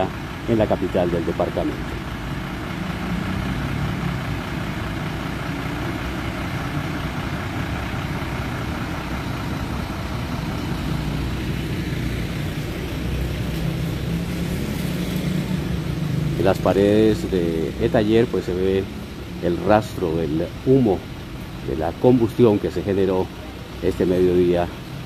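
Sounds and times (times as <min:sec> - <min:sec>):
fire engine idling: 0:00.0 - 0:25.0.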